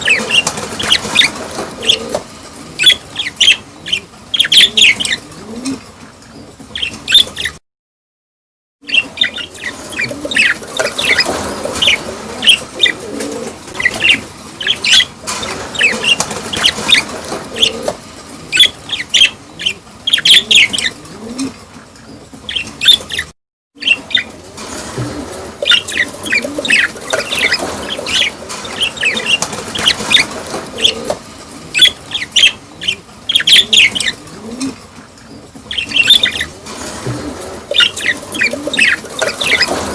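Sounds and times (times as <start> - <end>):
cage birds chirping: 0.0 - 7.6, 8.8 - 39.9.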